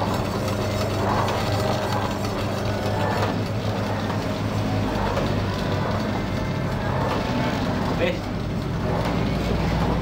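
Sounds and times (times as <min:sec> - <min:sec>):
motor hum: 0:00.0 - 0:10.0.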